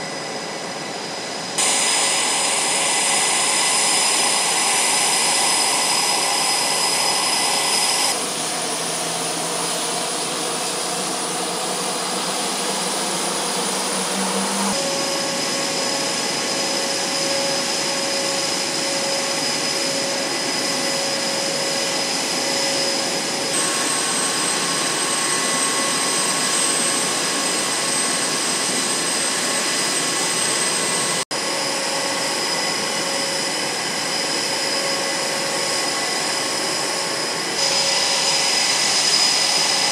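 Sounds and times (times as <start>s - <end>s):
jet engine roar with turbine whine: 0.0s - 39.9s.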